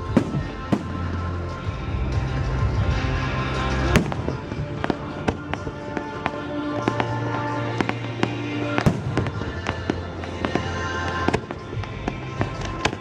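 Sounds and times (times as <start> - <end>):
fireworks bursting and crackling: 0.0 - 1.7, 3.5 - 13.0
music playing: 0.0 - 13.0.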